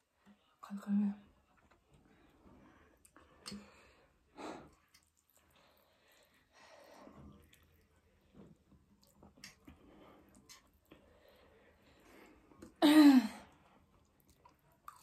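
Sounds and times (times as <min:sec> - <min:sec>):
soft eating sounds: 0:00.0 - 0:12.8, 0:13.4 - 0:15.0.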